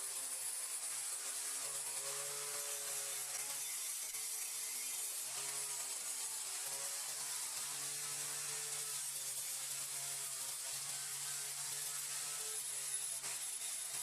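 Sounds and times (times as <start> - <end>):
small power tool running: 0.0 - 14.0.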